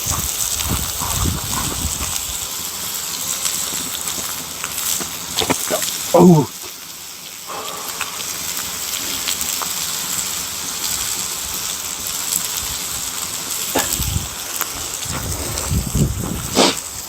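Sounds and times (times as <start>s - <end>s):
burning wood crackling: 0.0s - 17.0s
fish sizzling on grill: 0.0s - 17.0s.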